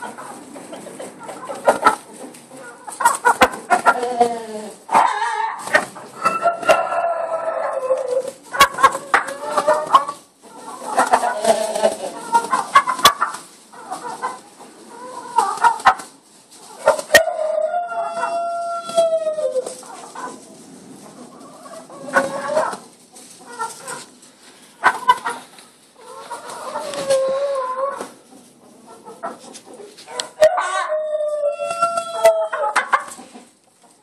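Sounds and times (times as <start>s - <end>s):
chickens clucking and squawking: 0.0s - 34.0s.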